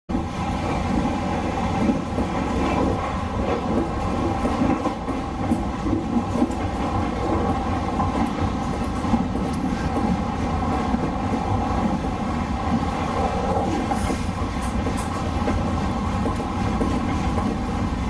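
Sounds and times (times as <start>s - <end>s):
train wheels rumbling on track: 0.1s - 18.0s.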